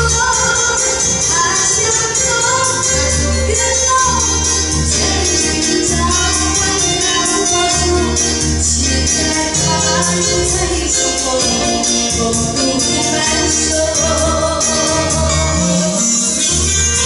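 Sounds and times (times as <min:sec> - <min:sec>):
pulsing bass: 0:00.0 - 0:17.0.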